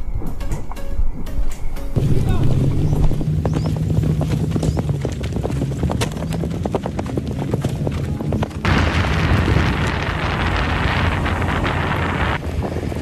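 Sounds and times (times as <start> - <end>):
wind on microphone: 0.0 - 13.0
hoofbeats on sandy track: 2.0 - 13.0.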